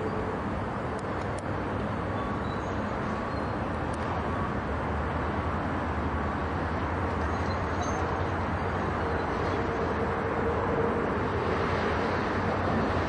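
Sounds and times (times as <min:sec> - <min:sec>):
engines rumbling: 0:00.0 - 0:13.0.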